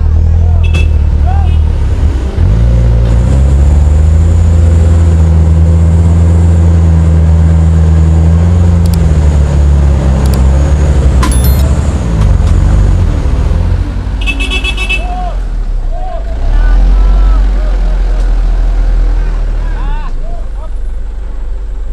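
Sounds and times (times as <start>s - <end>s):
truck diesel engine revving: 0.0s - 21.9s.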